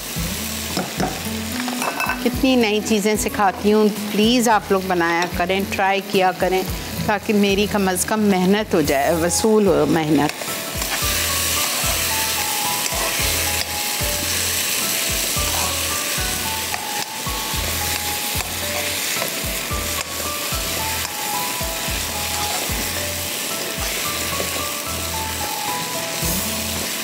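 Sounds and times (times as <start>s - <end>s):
chicken sizzling in a wok: 0.0s - 27.0s.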